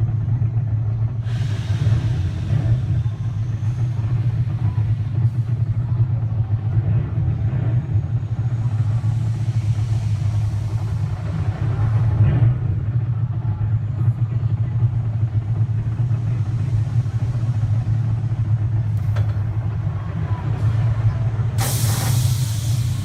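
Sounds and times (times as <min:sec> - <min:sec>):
ride machinery humming: 0:00.0 - 0:23.0
roller coaster rushing rumble: 0:00.0 - 0:23.0.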